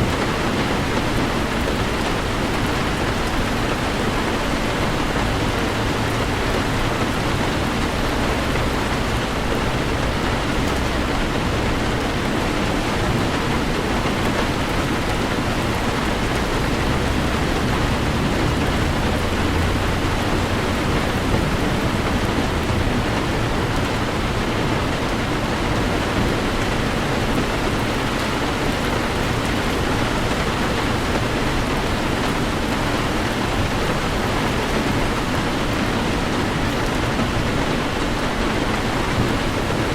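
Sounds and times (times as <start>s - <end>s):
low road rumble: 0.0s - 39.9s
rain pelting a car: 0.0s - 39.9s.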